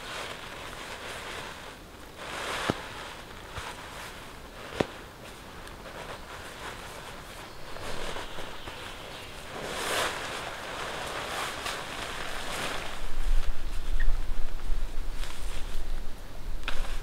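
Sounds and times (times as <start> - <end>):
nylon fabric rustling: 0.0 - 17.0.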